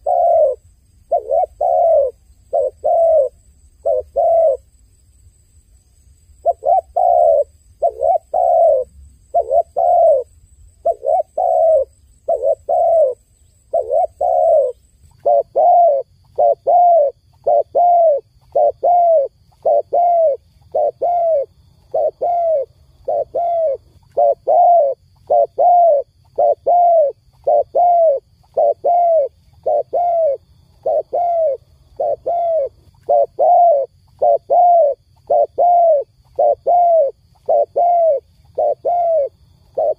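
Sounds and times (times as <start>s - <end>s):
dove cooing: 0.0s - 4.7s, 6.4s - 39.9s.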